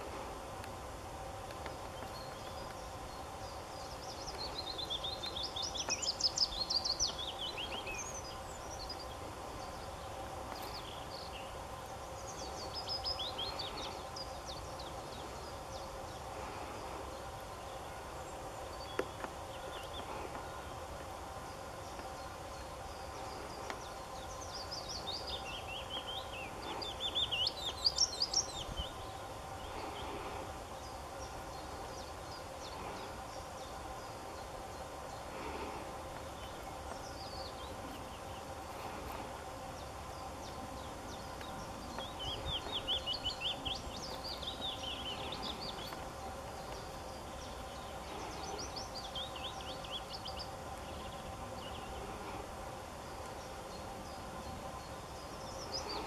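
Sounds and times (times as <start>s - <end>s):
faint steady hum: 0.0s - 56.0s
songbird singing: 0.0s - 56.0s.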